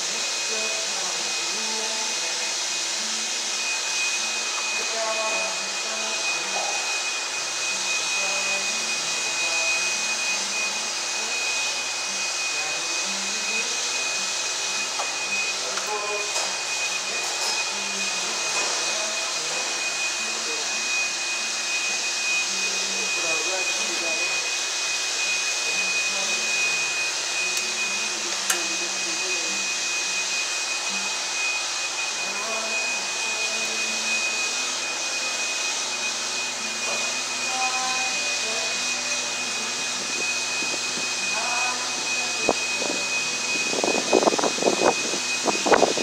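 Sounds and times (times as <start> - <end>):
machine whirring with high whine: 0.1 - 46.0.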